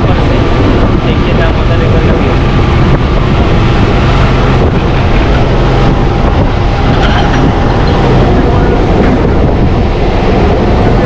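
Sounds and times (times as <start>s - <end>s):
moving train with low hum: 0.0s - 11.0s
wind buffeting microphone: 0.0s - 11.0s.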